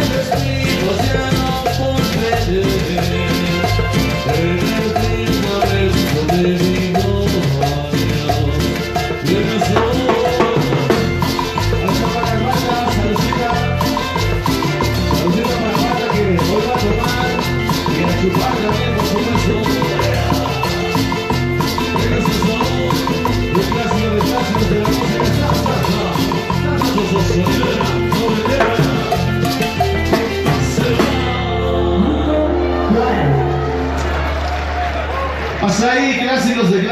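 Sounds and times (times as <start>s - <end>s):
latin dance music: 0.0s - 36.9s.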